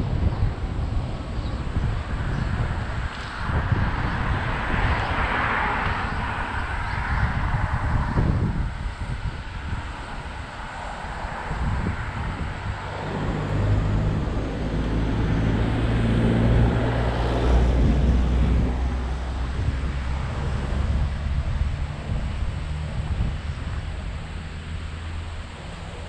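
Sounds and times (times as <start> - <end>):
road and tyre noise: 0.0 - 26.0
wind rumbling on microphone: 0.0 - 26.0.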